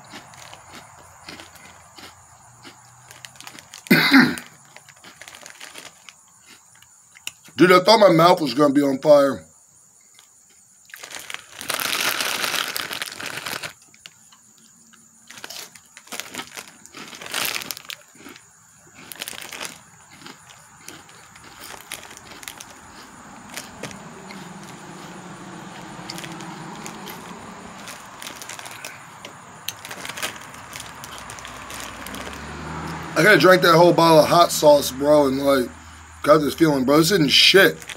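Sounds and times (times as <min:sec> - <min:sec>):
plastic snack bag crinkling: 0:00.0 - 0:06.9, 0:10.9 - 0:14.2, 0:15.0 - 0:33.4, 0:36.3 - 0:37.9.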